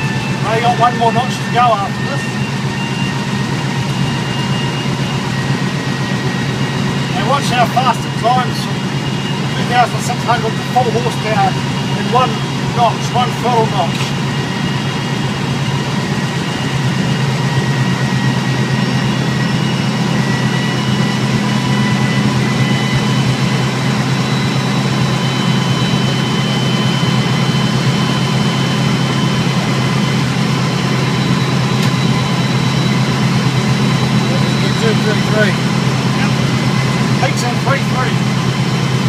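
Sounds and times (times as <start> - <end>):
locomotive engine whining at full power: 0.0 - 39.0.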